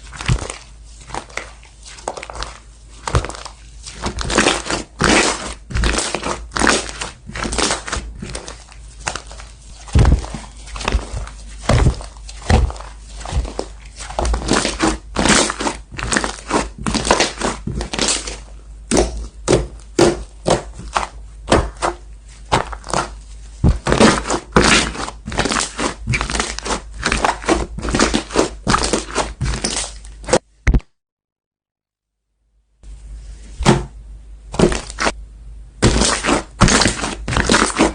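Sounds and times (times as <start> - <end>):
wet squishes of slime: 0.0 - 30.4, 34.5 - 35.2, 35.8 - 37.9.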